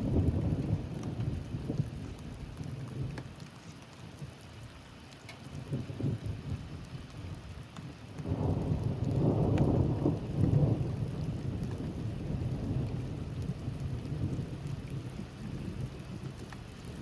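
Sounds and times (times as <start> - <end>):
thunder rumbling: 0.0 - 3.2, 5.5 - 17.0
steady rain: 0.0 - 17.0.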